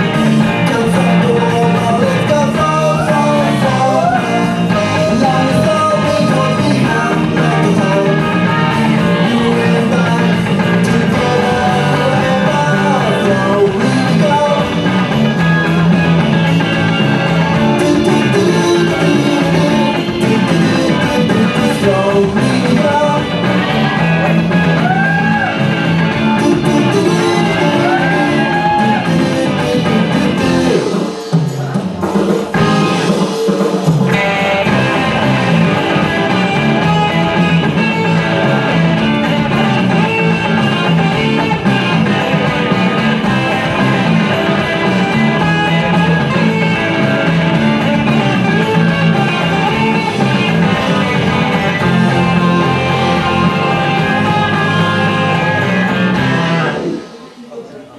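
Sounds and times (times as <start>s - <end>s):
rock music with guitar: 0.0s - 57.2s.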